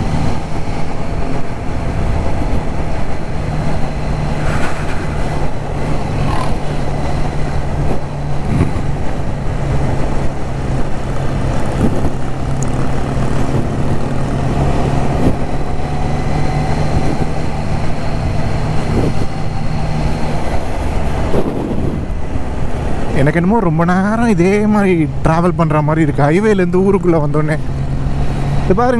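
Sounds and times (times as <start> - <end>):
motorcycle engine cruising: 0.0 - 28.9
road and wind noise: 0.0 - 28.9.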